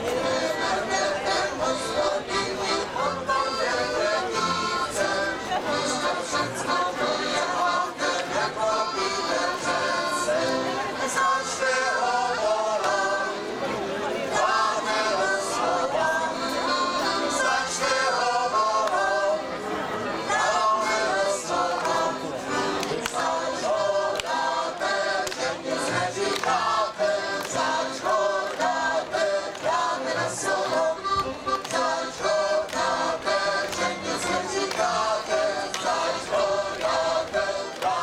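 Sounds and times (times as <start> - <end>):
group of voices singing: 0.0 - 38.0
instrumental accompaniment: 0.0 - 38.0.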